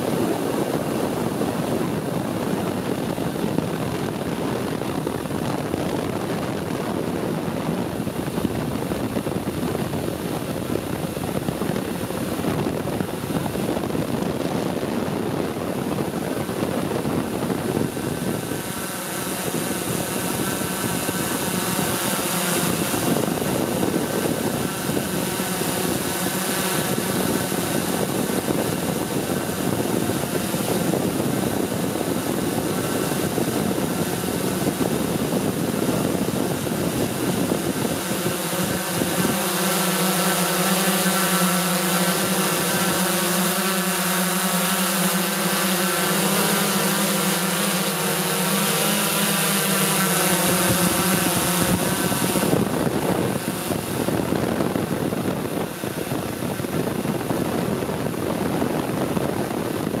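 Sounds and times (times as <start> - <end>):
drone propellers whirring: 0.0 - 60.0.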